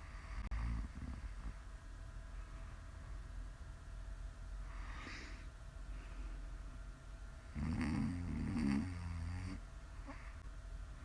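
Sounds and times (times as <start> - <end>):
faint room hum: 0.0 - 11.0
low room rumble: 0.0 - 11.0.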